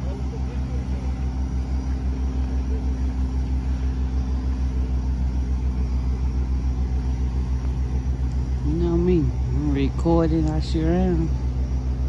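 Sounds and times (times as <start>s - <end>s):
faint steady hum: 0.0s - 12.0s
large engine idling: 0.0s - 12.0s.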